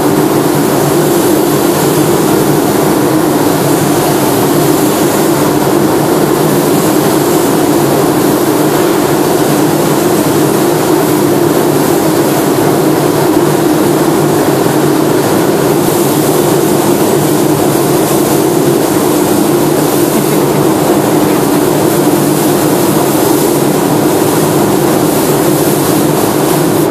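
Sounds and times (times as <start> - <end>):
paint spray gun hissing: 0.0 - 26.9
ventilation rushing: 0.0 - 26.9.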